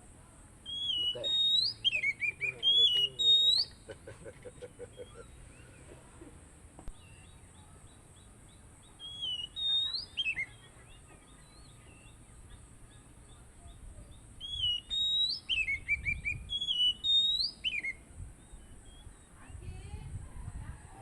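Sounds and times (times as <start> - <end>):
bird singing whistled song: 0.6 - 3.9, 4.9 - 5.9, 6.9 - 20.0
faint high chirp: 0.6 - 3.9, 5.0 - 6.3, 6.9 - 19.8.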